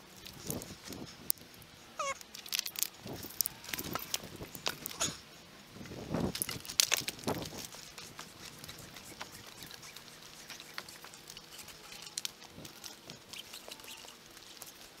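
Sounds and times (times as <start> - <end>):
rustling of climbing gear: 0.0 - 15.0.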